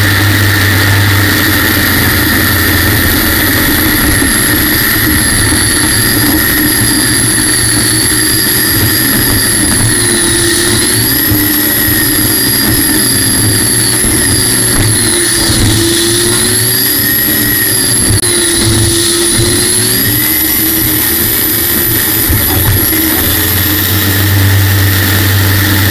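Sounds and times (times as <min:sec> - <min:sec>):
gas-turbine engine whine: 0:00.0 - 0:25.9.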